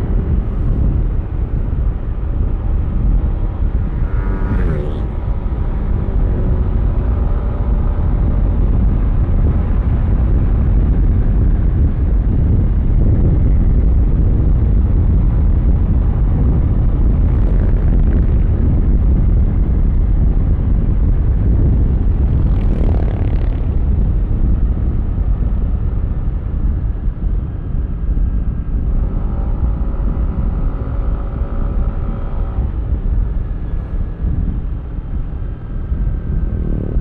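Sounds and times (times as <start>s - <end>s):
road rumble: 0.0s - 37.0s
wind rush: 0.0s - 37.0s.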